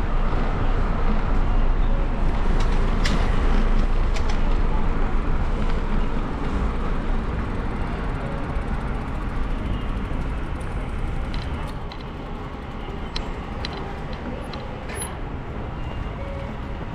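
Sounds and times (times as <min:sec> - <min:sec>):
traffic: 0:00.0 - 0:16.9
wind and road noise rumble: 0:00.0 - 0:16.9.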